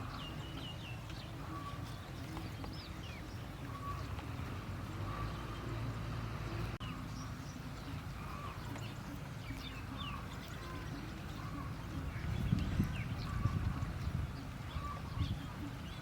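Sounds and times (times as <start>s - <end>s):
birds chirping and whistling: 0.0s - 16.0s
low outdoor rumble: 0.0s - 16.0s.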